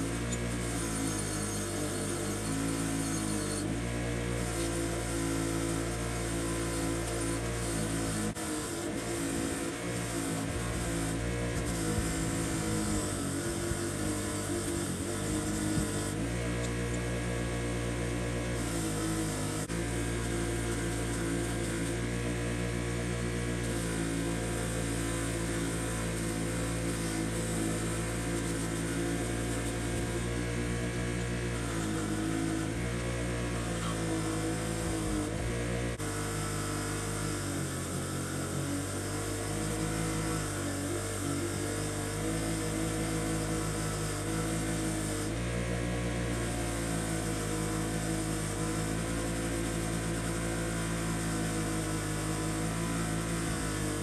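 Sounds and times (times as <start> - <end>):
electric power tool humming: 0.0 - 54.0.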